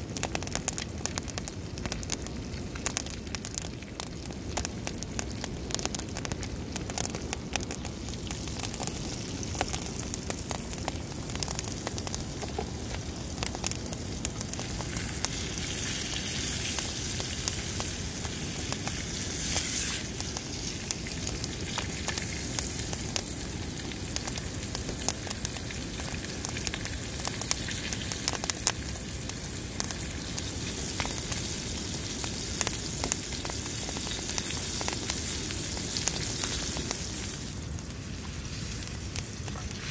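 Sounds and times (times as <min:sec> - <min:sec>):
campfire crackling and popping: 0:00.0 - 0:39.9
steak sizzling in frying pan: 0:06.1 - 0:39.9.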